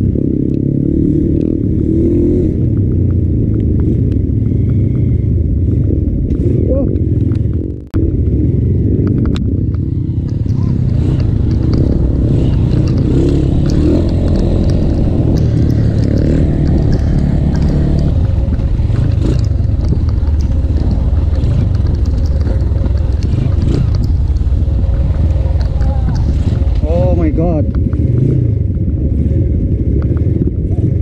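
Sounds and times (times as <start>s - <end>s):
two-stroke motorcycle engine running: 0.0s - 31.0s
knocks and rattles from bike: 1.3s - 7.9s, 8.9s - 31.0s.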